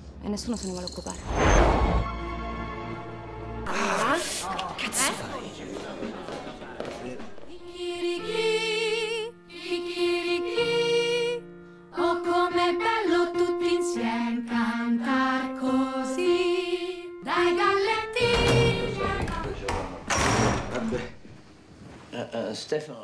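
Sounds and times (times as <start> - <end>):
piano accompaniment: 2.0 - 21.6.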